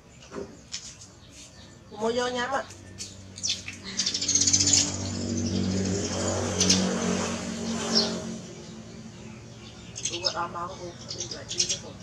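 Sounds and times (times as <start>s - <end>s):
vehicle engine running: 1.9s - 12.0s.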